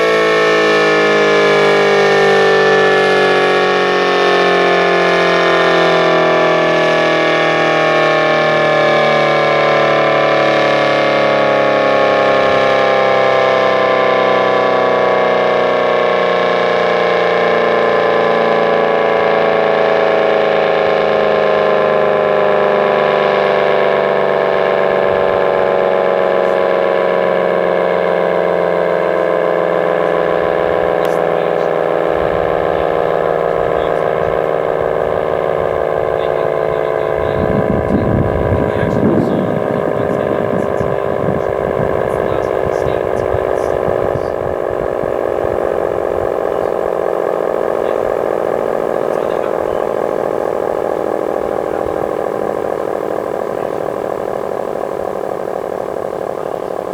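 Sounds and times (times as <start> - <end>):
siren winding down: 0.0 - 56.9.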